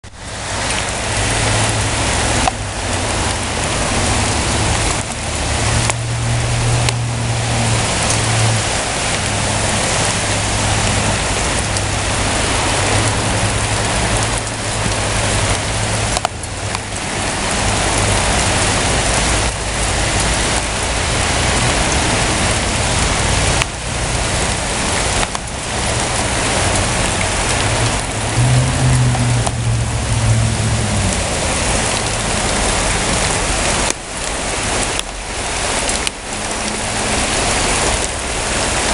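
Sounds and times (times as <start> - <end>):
heavy rain and hail falling: 0.0 - 38.9.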